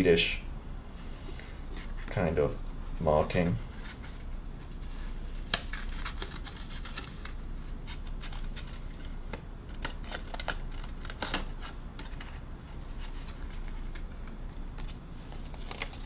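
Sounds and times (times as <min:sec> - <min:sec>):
paper sheet rustling: 0:03.1 - 0:16.0.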